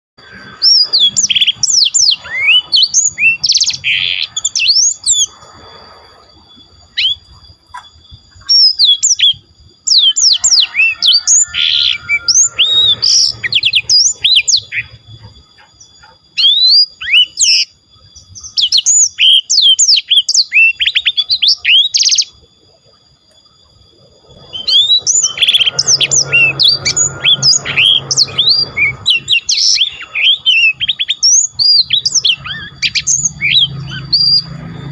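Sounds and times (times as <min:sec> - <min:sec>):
songbird singing whistled notes: 0:00.2 - 0:22.5, 0:23.2 - 0:34.9.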